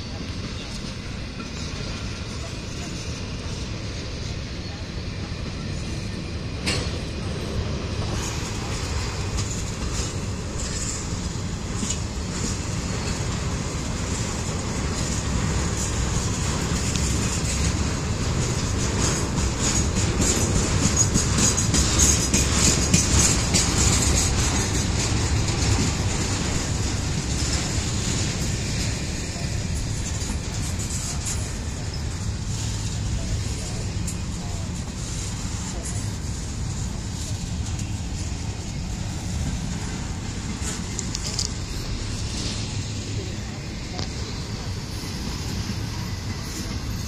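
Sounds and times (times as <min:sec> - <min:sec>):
rumble of train wheels on rails: 0:00.0 - 0:47.0.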